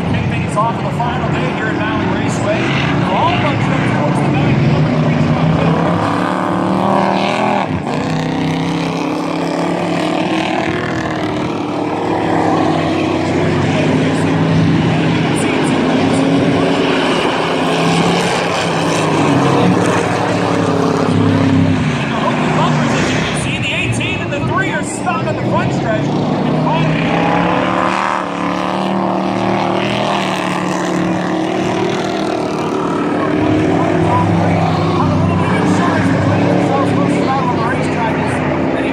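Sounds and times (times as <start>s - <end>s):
race truck engines droning: 0.0s - 38.9s.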